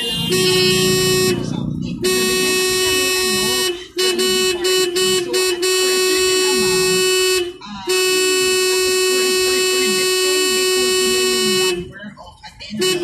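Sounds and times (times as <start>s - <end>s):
vehicle horn blaring: 0.0s - 12.0s, 12.8s - 13.0s.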